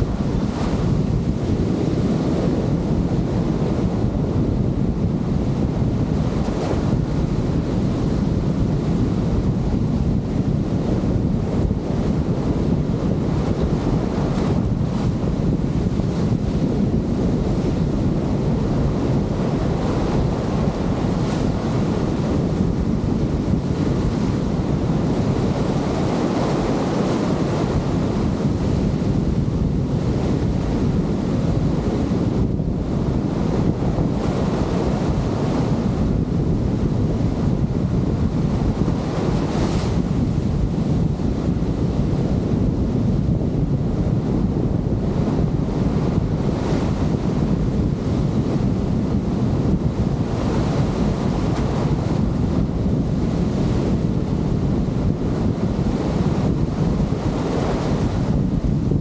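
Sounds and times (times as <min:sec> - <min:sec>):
waves breaking: 0:00.0 - 0:42.7, 0:43.3 - 0:59.0
wind buffeting microphone: 0:00.0 - 0:59.0.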